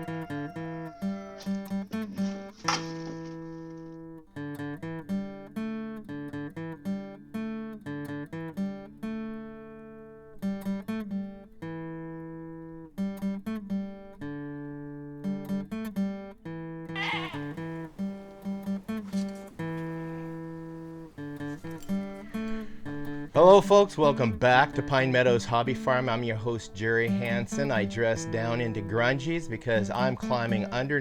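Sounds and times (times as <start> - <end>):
acoustic guitar picked and strummed: 0.0 - 31.0.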